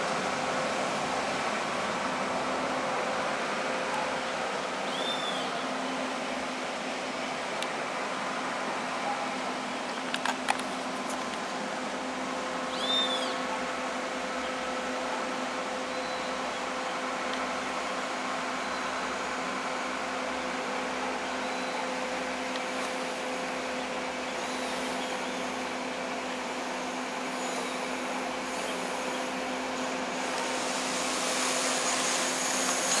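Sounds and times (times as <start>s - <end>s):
low mechanical drone: 0.0s - 33.0s.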